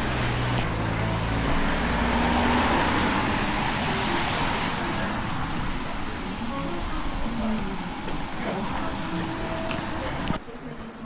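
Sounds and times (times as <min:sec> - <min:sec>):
rushing noise of passing vehicle: 0:00.0 - 0:10.3.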